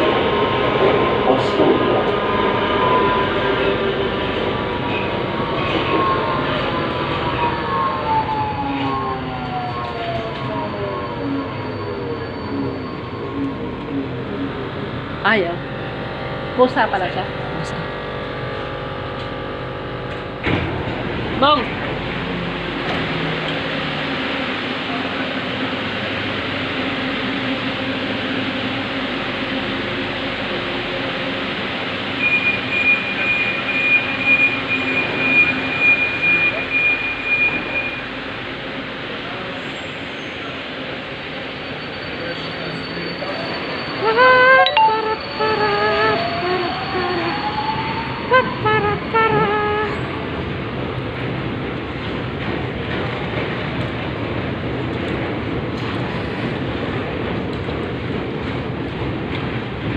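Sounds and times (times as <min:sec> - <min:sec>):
train rumbling in tunnel: 0:00.0 - 0:59.9.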